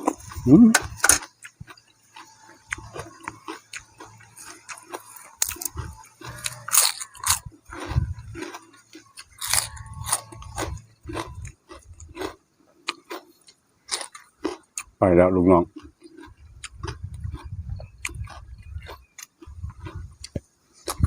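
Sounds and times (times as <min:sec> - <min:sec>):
person chewing crunchy food: 0:00.0 - 0:21.0.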